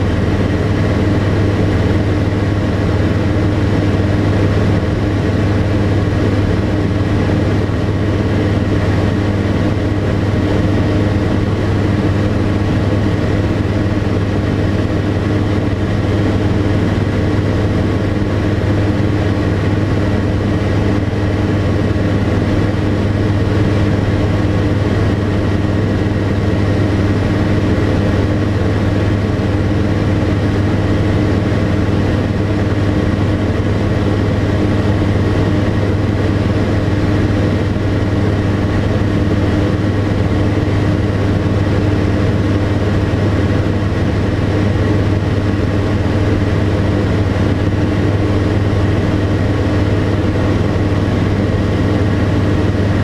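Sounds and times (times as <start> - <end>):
light aircraft engine droning: 0.0 - 53.0.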